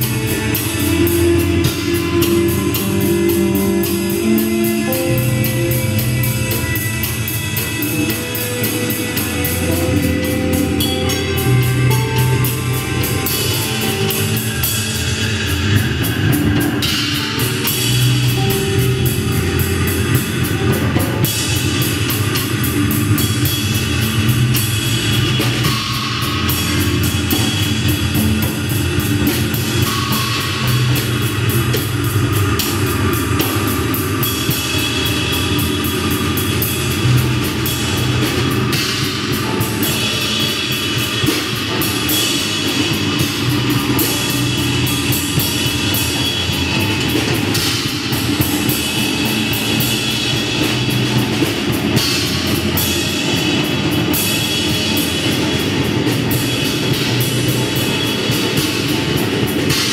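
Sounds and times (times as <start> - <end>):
drum kit and cymbals: 0.0 - 59.9
electric bass line: 0.0 - 59.9
electric guitar: 0.0 - 59.9.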